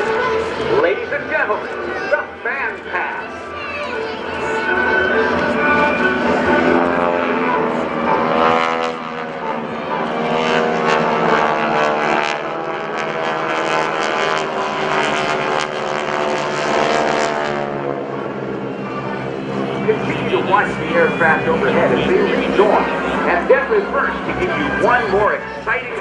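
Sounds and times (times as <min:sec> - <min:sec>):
propeller planes droning past: 0:00.0 - 0:26.0.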